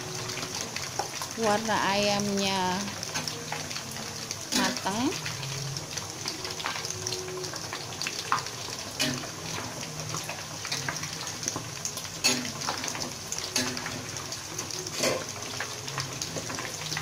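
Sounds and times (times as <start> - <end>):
oil bubbling and sizzling: 0.0 - 17.0.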